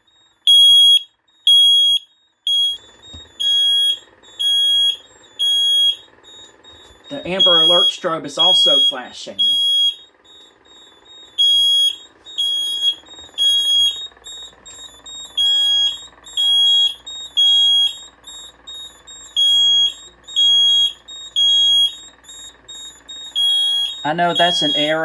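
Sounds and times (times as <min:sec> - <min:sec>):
high-pitched alarm beeps: 0:00.0 - 0:25.0.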